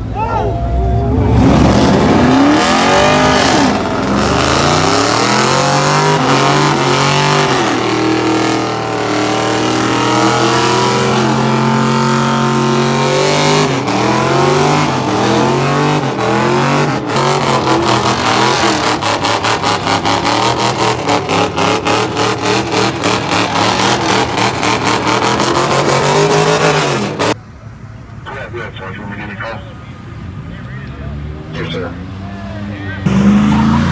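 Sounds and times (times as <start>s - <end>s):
car engines revving: 0.0s - 33.9s.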